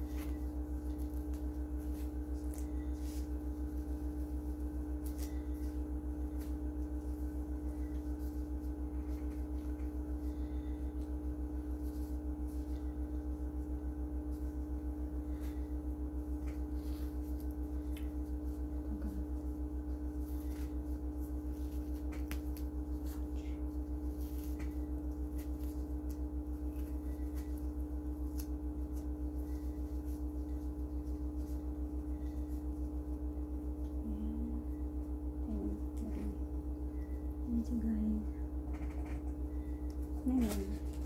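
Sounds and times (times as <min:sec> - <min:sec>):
rustling of wrappings: 0:00.0 - 0:34.0
electrical machine hum: 0:00.0 - 0:41.0.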